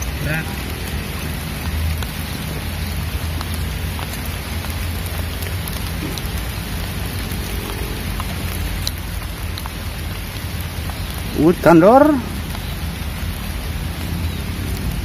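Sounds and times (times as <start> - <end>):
rain falling on a pond: 0.0 - 15.0.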